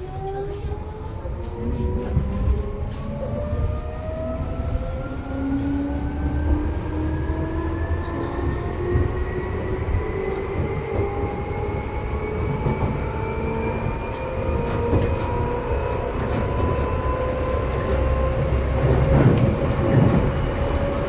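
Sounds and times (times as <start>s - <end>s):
wheels rumbling on rail: 0.0s - 21.0s.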